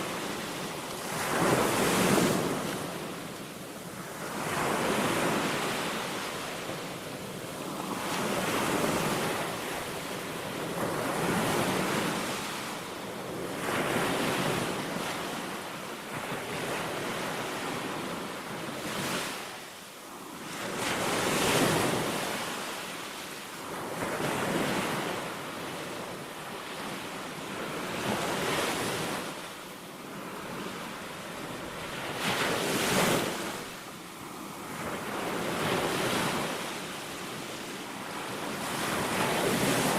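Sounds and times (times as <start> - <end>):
waves breaking on a sandy beach: 0.0 - 39.9.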